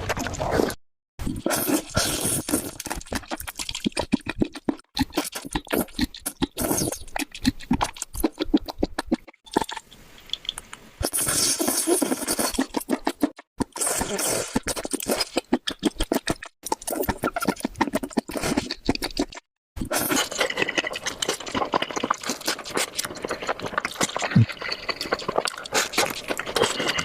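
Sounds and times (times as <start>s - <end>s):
chewing and smacking food: 2.4s - 9.8s, 11.7s - 27.0s.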